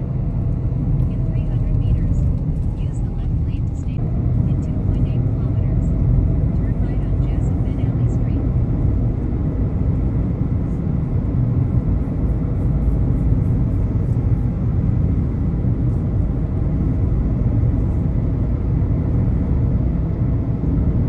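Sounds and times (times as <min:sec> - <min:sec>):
car interior road rumble: 0:00.0 - 0:21.0.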